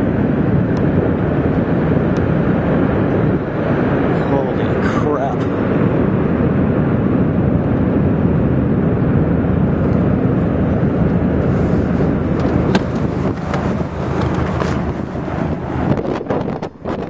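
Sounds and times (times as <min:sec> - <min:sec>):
wind roaring on microphone: 0:00.0 - 0:17.0.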